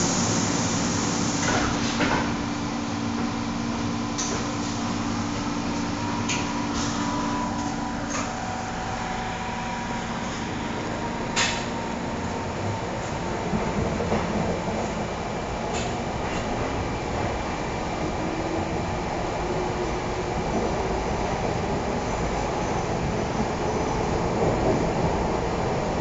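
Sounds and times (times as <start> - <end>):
train carriage noise: 0.0 - 26.0.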